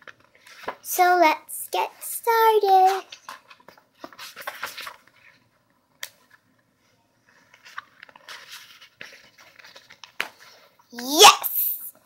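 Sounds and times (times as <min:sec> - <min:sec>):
book pages rustling and flipping: 0:00.0 - 0:01.2, 0:01.9 - 0:11.0.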